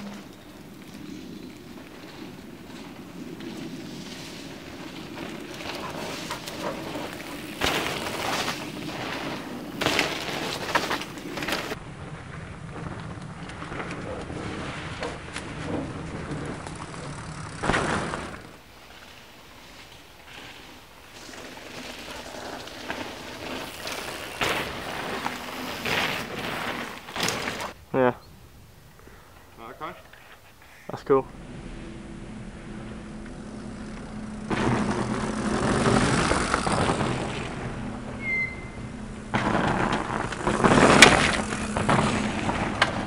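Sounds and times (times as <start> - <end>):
bike tyres skidding on dirt: 0.0 - 27.8, 31.3 - 43.0.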